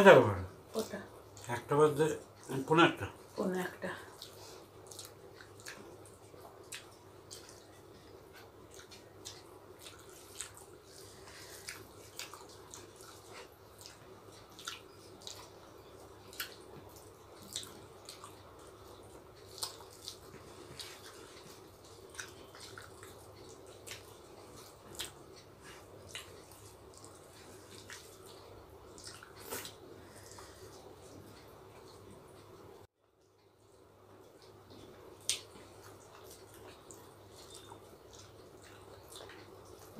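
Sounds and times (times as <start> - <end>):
low steady hum: 0.0 - 39.9
people eating by hand: 0.1 - 39.9.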